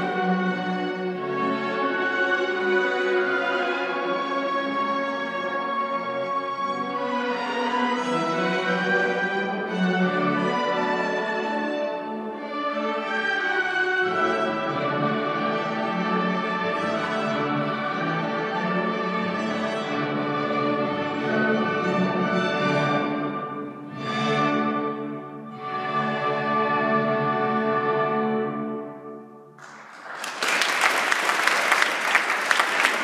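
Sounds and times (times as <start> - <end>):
orchestra playing bowed strings: 0.0 - 29.7.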